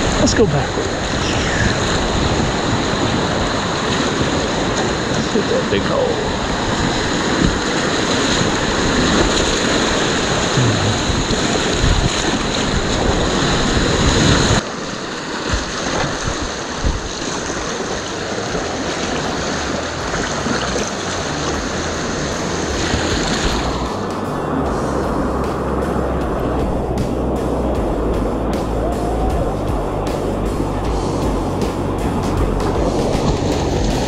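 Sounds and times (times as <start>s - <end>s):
whitewater rapids rushing: 0.0s - 34.0s.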